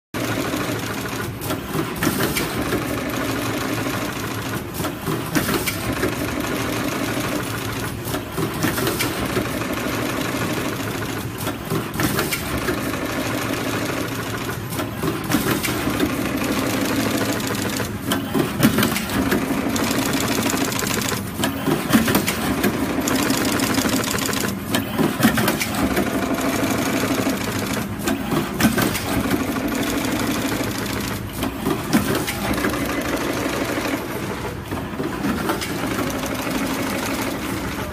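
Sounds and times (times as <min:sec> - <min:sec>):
machine clattering: 0:00.6 - 0:37.6.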